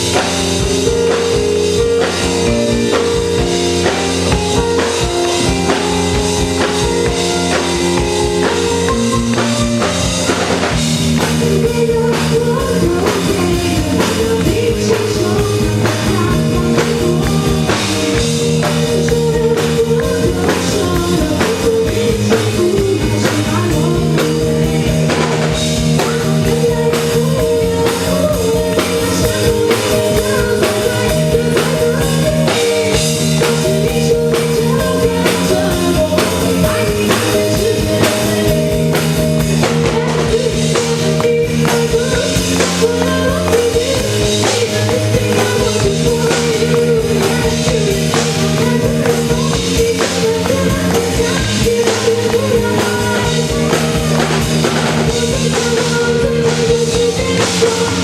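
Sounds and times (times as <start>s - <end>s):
drum kit beat: 0.0s - 58.0s
live rock band: 0.0s - 58.0s.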